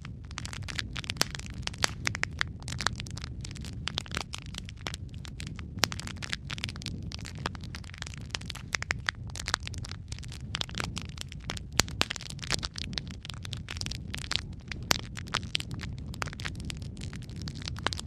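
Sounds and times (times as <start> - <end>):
fire crackles and pops: 0.0 - 18.0
logs burning in fireplace: 0.0 - 18.0.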